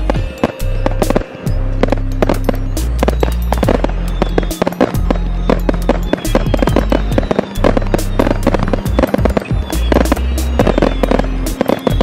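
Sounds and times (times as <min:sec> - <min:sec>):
fireworks bangs and crackles: 0:00.0 - 0:12.0
music with low bass line: 0:00.0 - 0:12.0.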